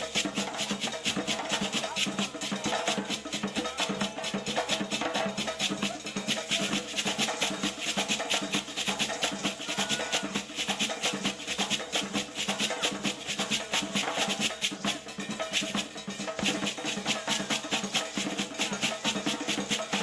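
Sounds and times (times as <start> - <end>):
rapid dance drumming: 0.0 - 20.0.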